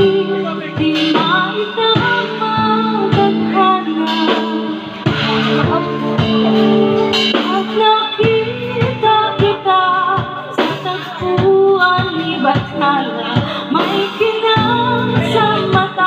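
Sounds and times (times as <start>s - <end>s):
drum kit steady beat: 0.0s - 16.0s
guitar: 0.0s - 16.0s
woman singing into microphone: 0.0s - 16.0s.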